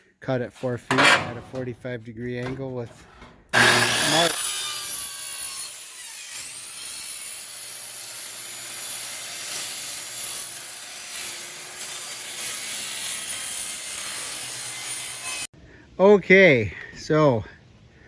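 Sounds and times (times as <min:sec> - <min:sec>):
power saw cutting: 0:00.5 - 0:15.5.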